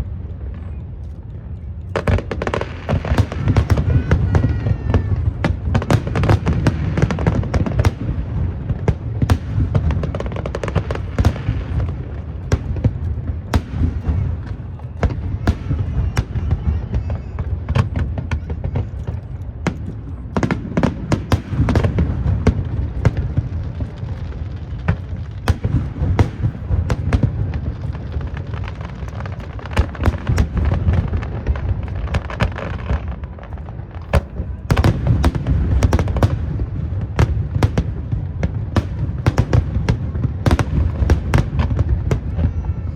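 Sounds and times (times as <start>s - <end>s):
fireworks crackling: 0.0s - 42.9s
fireworks booming bursts: 1.9s - 42.9s.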